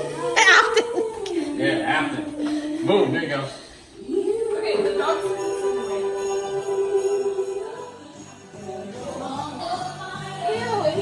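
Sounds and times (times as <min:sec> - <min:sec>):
song with singing voice: 0:00.0 - 0:11.0.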